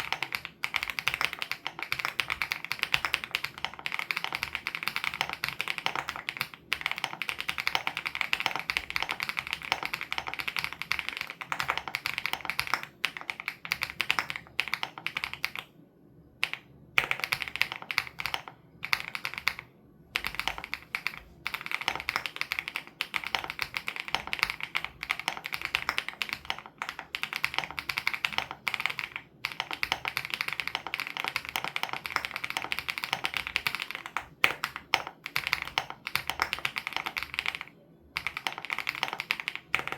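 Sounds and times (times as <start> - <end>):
mechanical keyboard typing: 0.0 - 15.7, 16.4 - 39.9.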